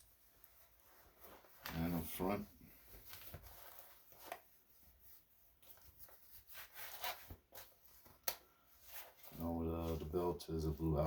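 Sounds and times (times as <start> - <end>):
clothing and gear rustling: 0.0 - 11.0.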